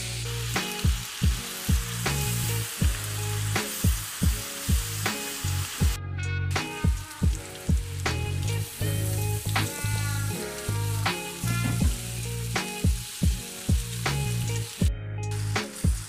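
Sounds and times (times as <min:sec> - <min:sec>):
meat and potatoes sizzling in pan: 0:00.0 - 0:16.0
music with deep bass beat: 0:00.0 - 0:16.0.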